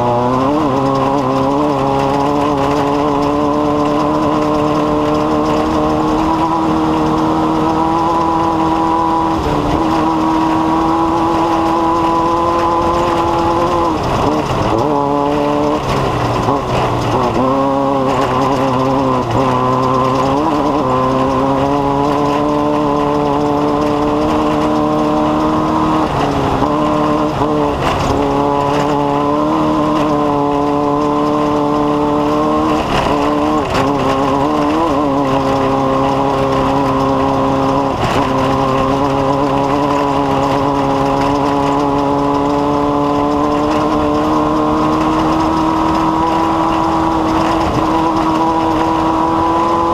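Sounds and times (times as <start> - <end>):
race engine running hard: 0.0 - 49.9.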